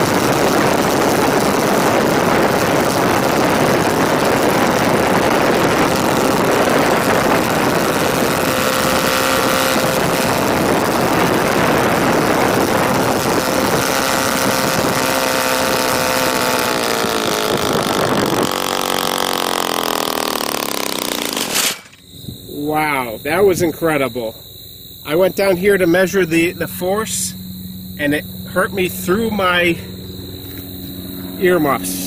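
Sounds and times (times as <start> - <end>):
propeller engine running: 0.0 - 32.0.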